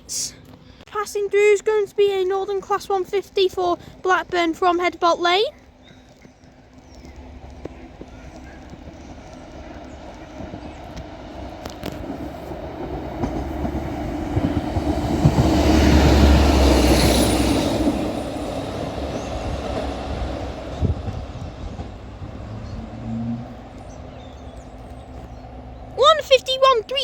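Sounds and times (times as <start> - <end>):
diesel train passing: 1.0 - 27.0.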